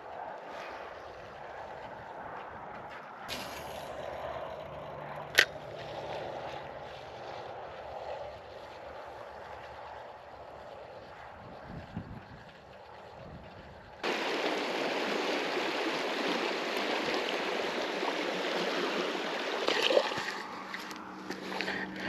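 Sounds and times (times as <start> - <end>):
highway traffic: 0.0 - 10.2, 14.0 - 22.0.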